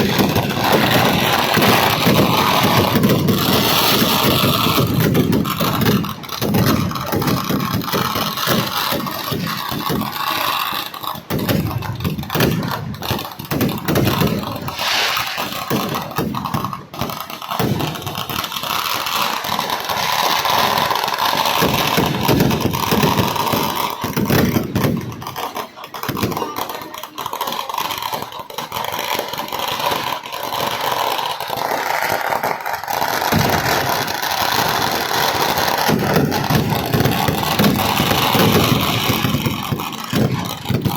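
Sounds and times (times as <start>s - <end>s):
firecracker bangs and cracks: 0.0s - 40.9s.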